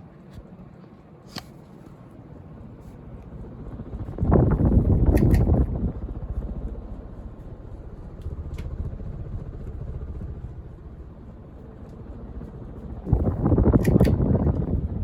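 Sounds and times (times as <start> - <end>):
ceiling fan running: 0.0 - 15.0.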